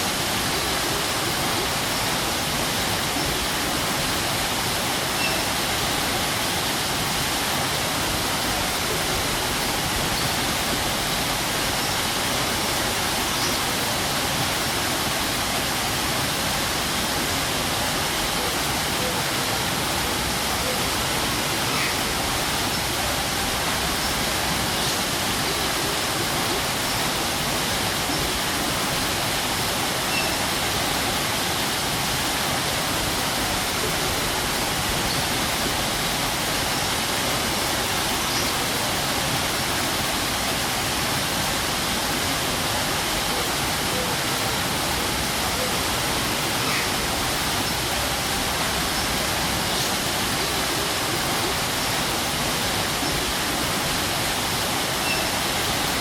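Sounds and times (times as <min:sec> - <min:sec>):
waterfall pouring and crashing: 0:00.0 - 0:56.0.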